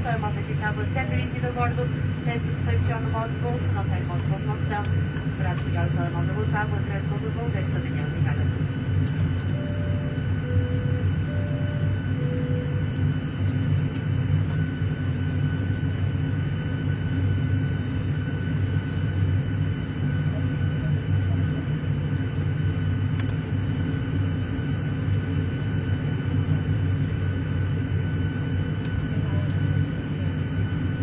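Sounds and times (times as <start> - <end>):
faint steady whine: 0.0 - 31.0
jet engines and airflow rumble: 0.0 - 31.0.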